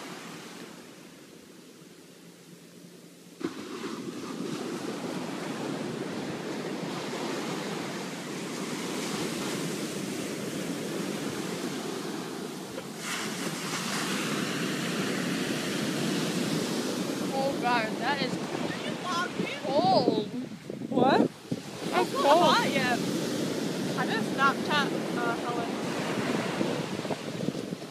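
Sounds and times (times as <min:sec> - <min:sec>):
surf washing up beach: 0:00.0 - 0:27.9.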